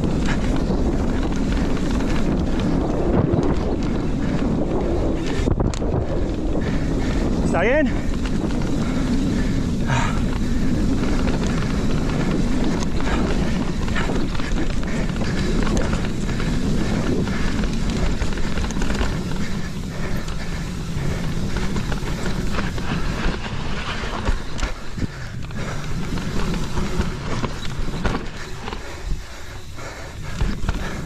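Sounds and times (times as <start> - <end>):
bike rattling over bumps: 0.0 - 31.0
wind and tyre noise: 0.0 - 31.0.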